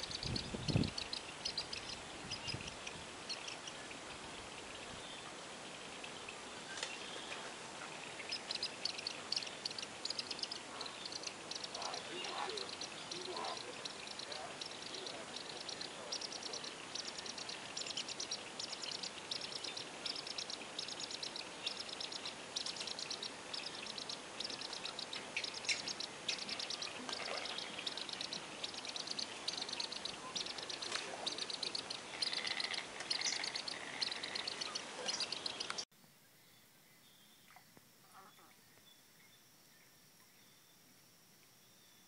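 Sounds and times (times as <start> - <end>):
birds chirping in rapid bursts: 0.0 - 35.9.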